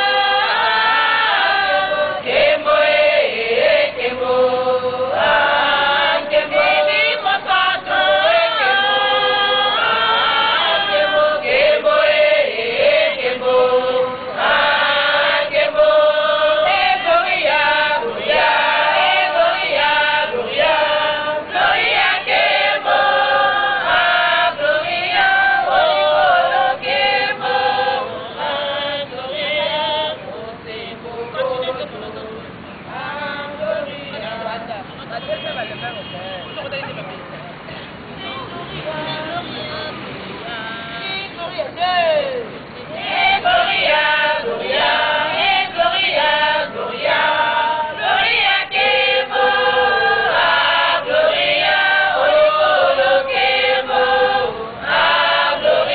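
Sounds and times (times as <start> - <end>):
women singing gospel song: 0.0 - 34.8, 38.6 - 55.9.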